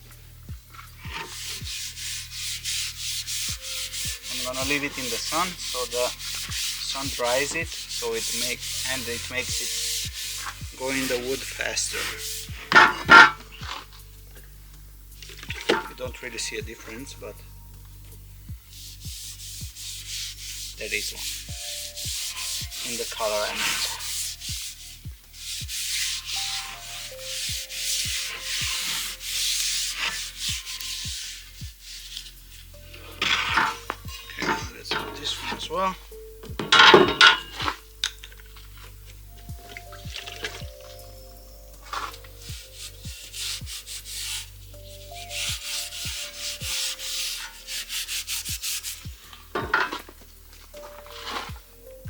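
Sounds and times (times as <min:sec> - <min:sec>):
faint background music: 0:00.0 - 0:52.0
cloth rubbing wooden handle: 0:00.6 - 0:14.2, 0:15.2 - 0:17.4, 0:18.1 - 0:52.0.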